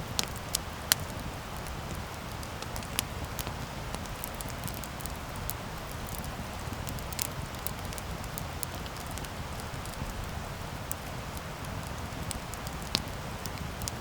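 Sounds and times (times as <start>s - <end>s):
campfire crackling with pops: 0.0s - 14.0s
low rumble of flames: 0.0s - 14.0s.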